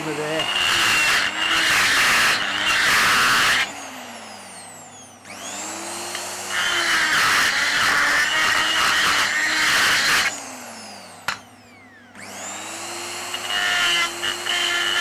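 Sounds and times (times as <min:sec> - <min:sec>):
die grinder grinding metal: 0:00.0 - 0:11.6, 0:12.2 - 0:15.0
grinder spinning whine: 0:00.0 - 0:15.0.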